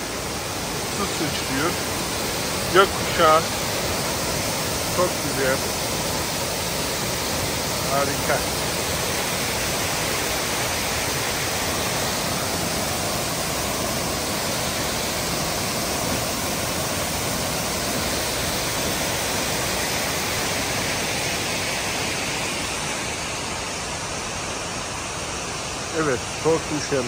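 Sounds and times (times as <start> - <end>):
waterfall thundering: 0.0 - 27.0.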